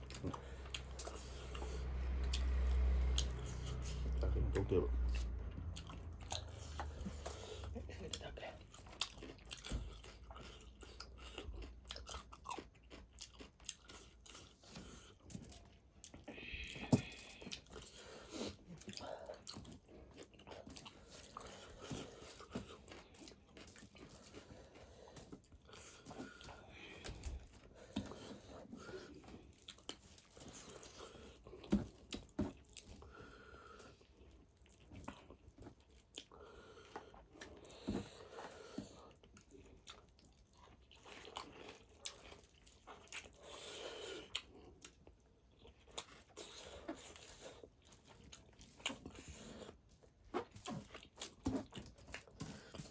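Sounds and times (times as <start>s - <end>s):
wet chewing and biting: 0.0s - 52.9s.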